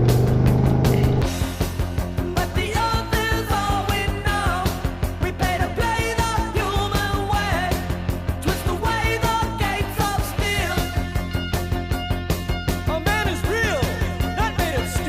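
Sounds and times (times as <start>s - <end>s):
song with sung vocals: 0.8s - 11.8s, 12.6s - 15.0s.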